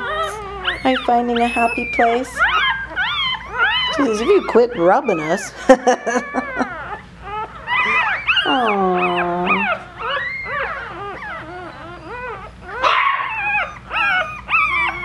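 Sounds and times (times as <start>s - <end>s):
puppies squealing and whimpering: 0.0s - 15.0s.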